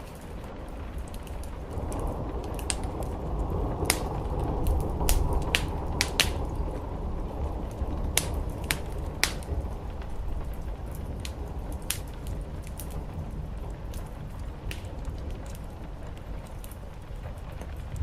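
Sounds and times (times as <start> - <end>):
rain on a roof: 0.0 - 18.0
wood fire crackling and popping: 0.0 - 18.0.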